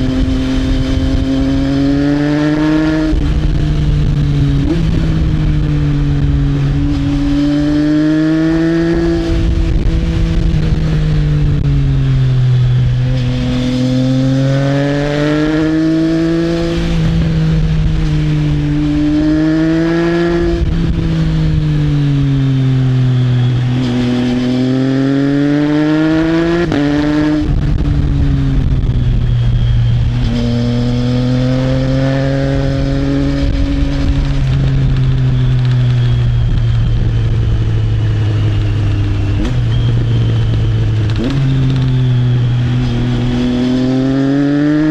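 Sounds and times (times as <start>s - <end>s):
motorcycle engine revving: 0.0s - 44.9s
wind and road noise: 0.0s - 44.9s.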